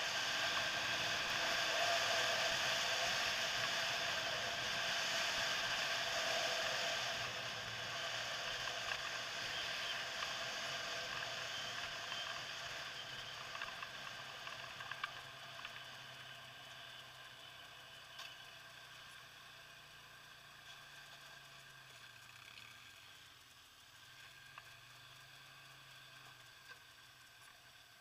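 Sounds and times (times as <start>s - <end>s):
quad bike engine running: 0.0s - 28.0s
wind: 0.0s - 28.0s.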